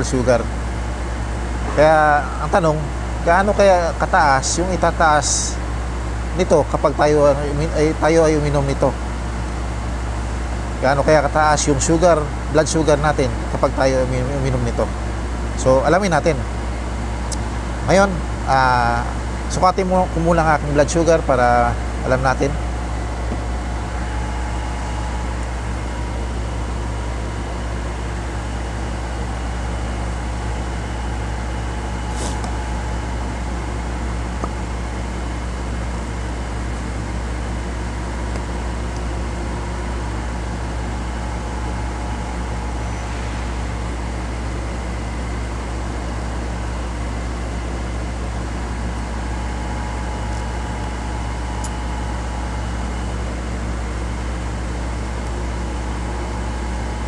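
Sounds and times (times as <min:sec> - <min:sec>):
electric machine humming: 0:00.0 - 0:57.0
faint steady whine: 0:00.0 - 0:57.0.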